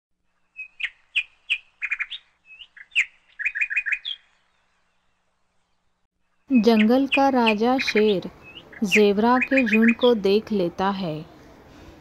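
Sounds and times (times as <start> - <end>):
bird chirping: 0.3 - 10.6.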